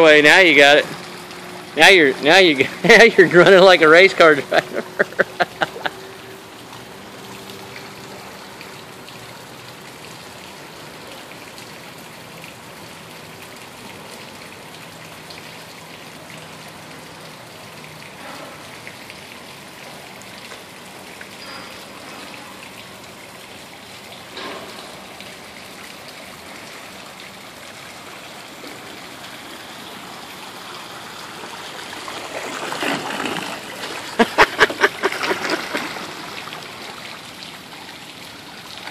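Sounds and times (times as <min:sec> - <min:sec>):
propeller churning water: 0:00.0 - 0:38.9
water splashing and trickling: 0:00.0 - 0:38.9.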